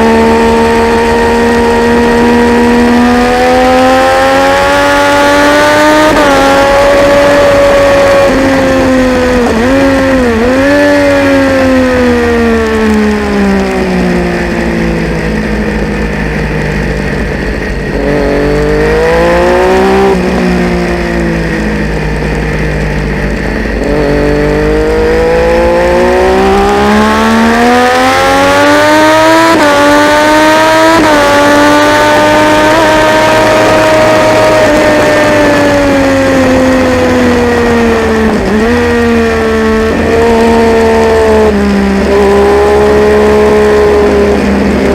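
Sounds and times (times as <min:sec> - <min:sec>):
racing motorcycle engine revving: 0:00.0 - 0:44.9.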